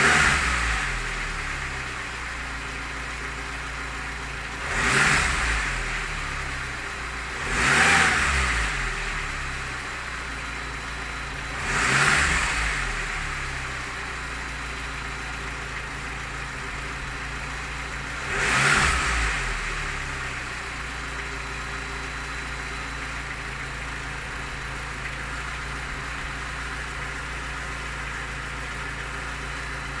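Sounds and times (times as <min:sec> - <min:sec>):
car engine idling and revving: 0:00.0 - 0:30.0
engine knock: 0:00.0 - 0:30.0.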